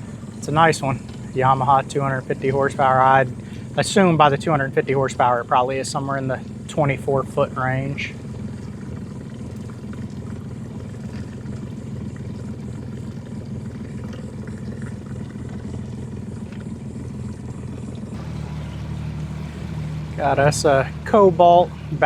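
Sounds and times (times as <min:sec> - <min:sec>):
motorboat engine humming: 0:00.0 - 0:22.0.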